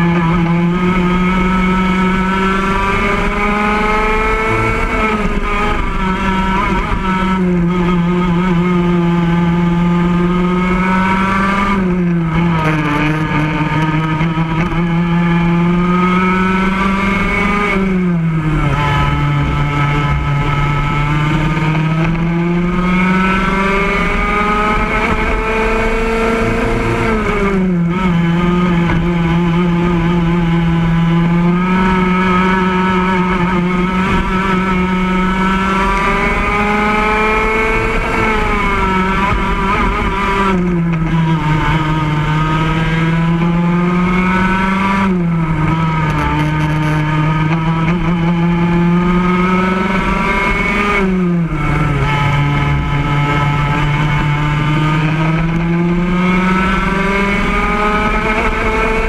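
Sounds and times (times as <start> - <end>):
racing kart engine: 0.0 - 59.0.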